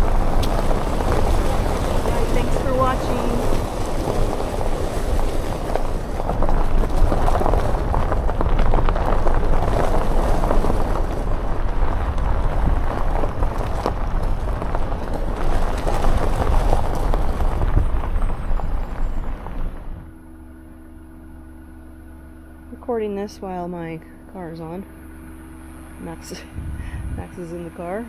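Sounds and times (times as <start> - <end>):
car tyres rumbling on road: 0.0 - 28.0
gravel crackling under tyres: 0.0 - 28.0.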